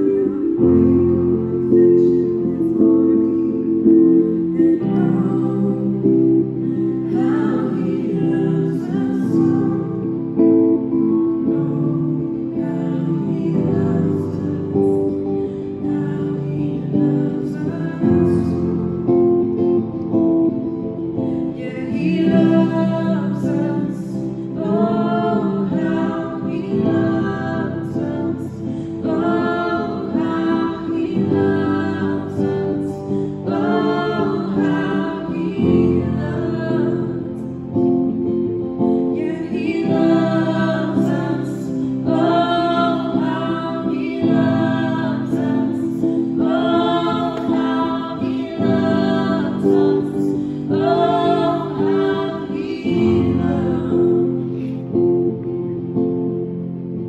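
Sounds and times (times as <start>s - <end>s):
women singing: 0.0s - 55.6s
acoustic guitar: 0.0s - 57.0s
keyboard: 0.0s - 57.0s.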